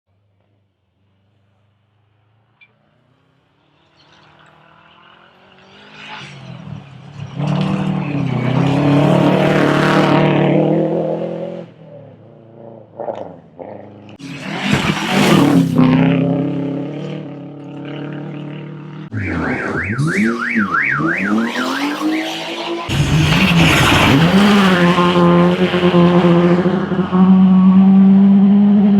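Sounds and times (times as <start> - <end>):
rally car engine revving: 3.8 - 28.9.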